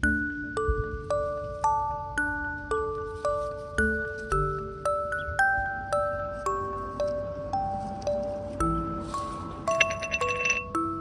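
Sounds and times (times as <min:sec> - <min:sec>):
bell-like mallet melody: 0:00.0 - 0:11.0.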